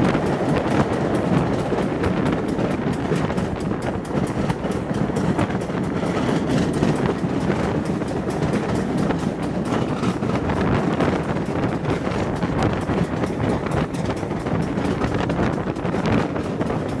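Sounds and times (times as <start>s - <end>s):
rumble of train wheels on rails: 0.0s - 17.0s.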